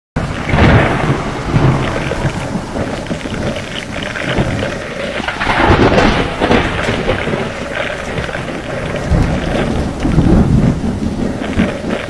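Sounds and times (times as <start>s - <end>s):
heavy rain hissing: 0.2s - 12.0s
low rumbling surges: 0.2s - 12.0s.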